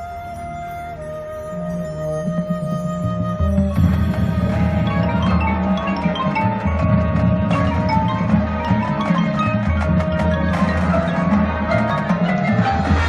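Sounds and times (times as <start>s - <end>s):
mallet percussion runs: 2.1s - 13.0s.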